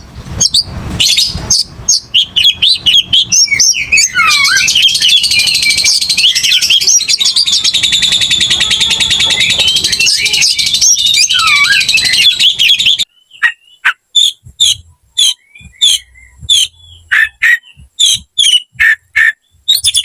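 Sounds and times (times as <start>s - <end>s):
songbird singing sharp notes: 0.0s - 20.0s.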